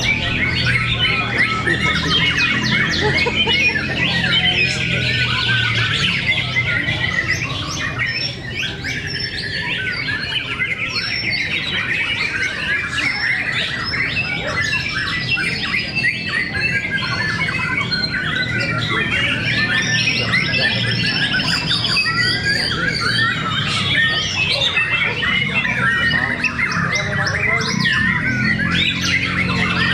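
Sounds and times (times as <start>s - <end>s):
caged songbirds singing: 0.0s - 29.9s.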